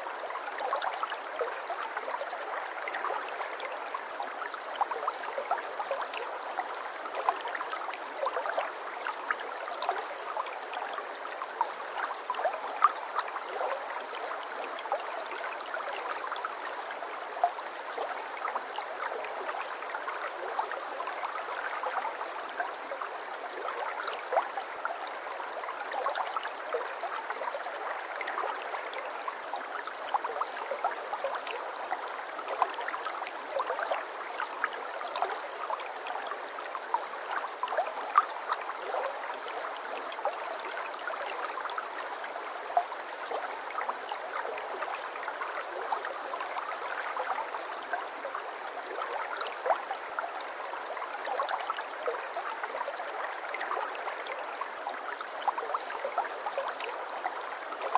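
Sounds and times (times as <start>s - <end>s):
brook babbling over stones: 0.0s - 57.9s.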